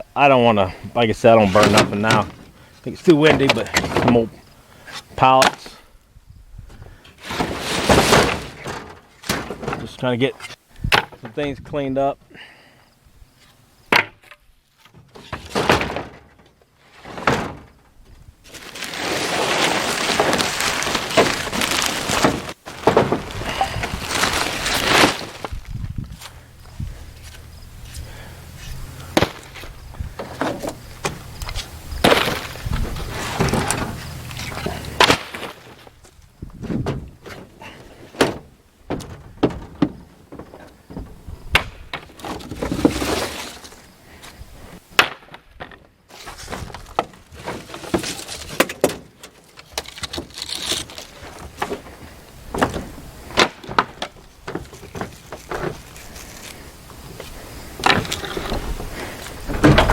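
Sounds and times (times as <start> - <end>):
boards knocking and clattering: 1.2 - 4.4, 7.2 - 10.1, 13.9 - 43.8, 45.0 - 56.6, 57.2 - 59.9.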